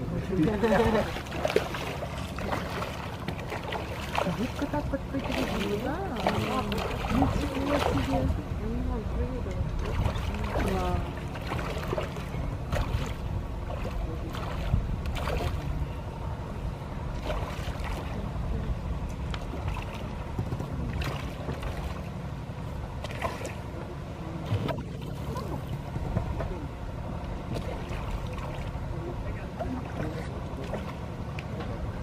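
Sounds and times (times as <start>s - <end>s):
motorboat engine running: 0.0s - 32.0s
water splashing against hull: 0.0s - 32.0s.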